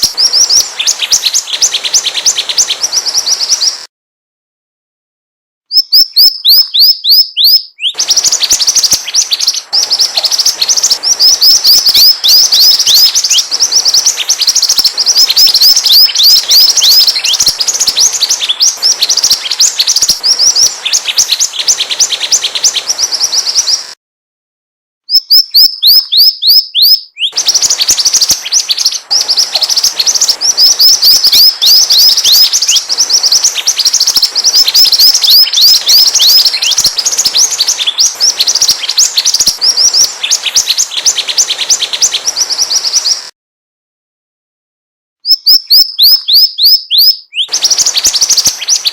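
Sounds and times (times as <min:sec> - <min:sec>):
bird song high chirps: 0:00.0 - 0:03.9, 0:05.7 - 0:24.0, 0:25.1 - 0:43.3, 0:45.2 - 0:48.9.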